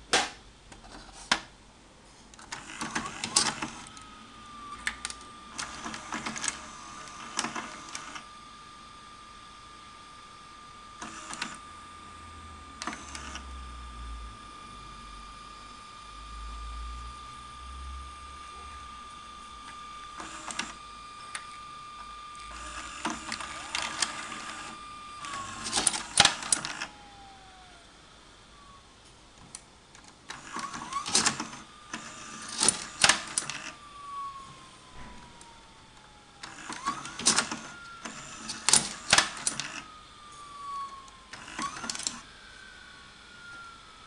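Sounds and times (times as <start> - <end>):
motor whine: 2.4 - 44.0.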